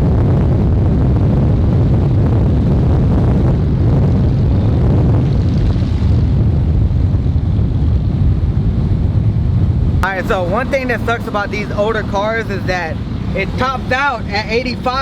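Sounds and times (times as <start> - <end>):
car engine low rumble: 0.0 - 15.0
wind and road noise: 0.0 - 15.0.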